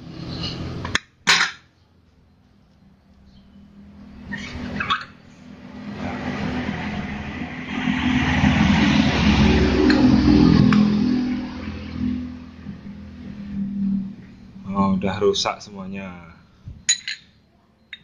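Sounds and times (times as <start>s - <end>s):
steady low hum: 0.0s - 18.0s
vehicle engine running: 2.1s - 16.7s.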